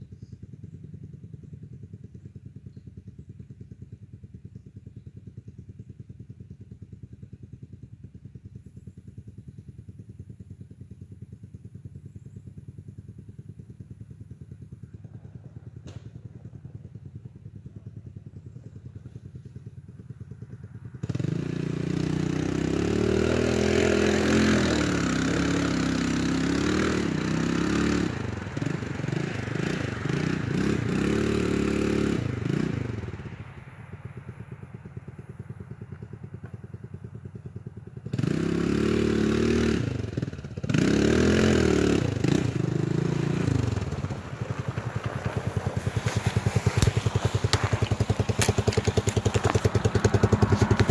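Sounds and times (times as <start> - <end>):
quad engine idling and revving: 0.0 - 50.9.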